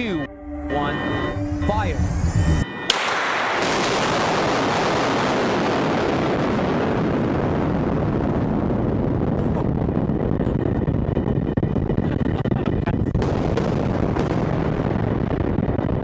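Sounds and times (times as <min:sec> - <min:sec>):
blast rumble echoing in tunnel: 0:00.2 - 0:15.8.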